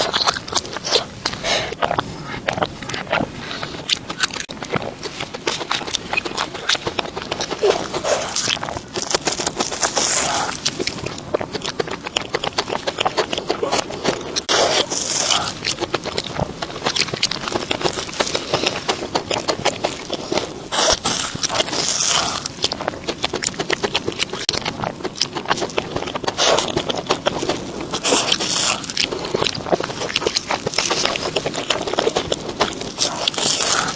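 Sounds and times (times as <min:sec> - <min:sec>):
chewing crispy food: 0:00.0 - 0:33.9.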